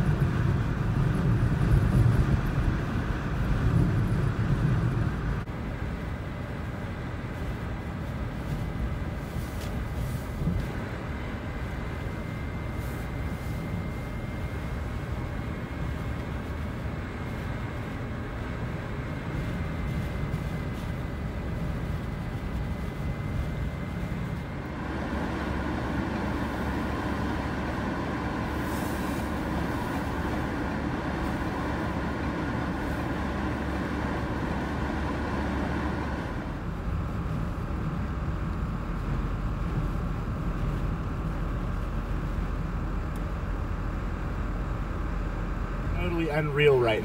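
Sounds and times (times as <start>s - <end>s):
blizzard wind blowing: 0.0s - 47.0s.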